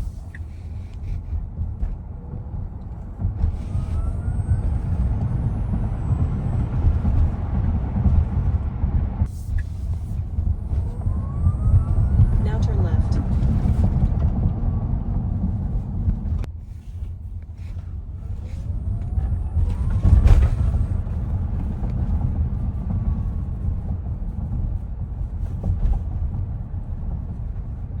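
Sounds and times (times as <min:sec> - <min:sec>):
tyre and road rumble: 0:00.0 - 0:28.0.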